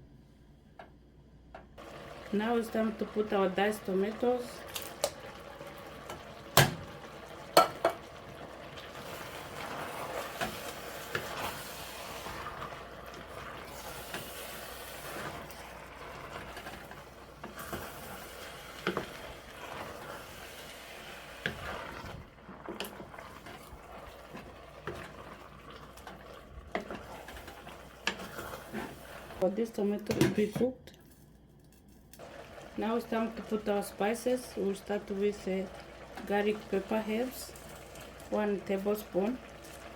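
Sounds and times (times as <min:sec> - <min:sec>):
utensil stirring vegetables: 0:01.8 - 0:29.6, 0:32.2 - 0:39.9
light sizzle: 0:01.8 - 0:30.0, 0:30.8 - 0:39.9.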